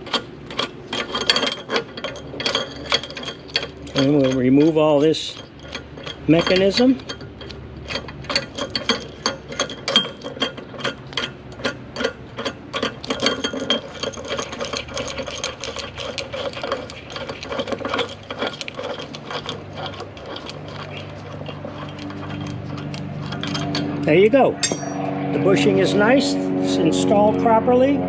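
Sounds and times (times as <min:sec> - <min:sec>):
nut spinning on threaded bolt: 0:00.0 - 0:25.0
washers clicking and rattling: 0:00.0 - 0:25.0.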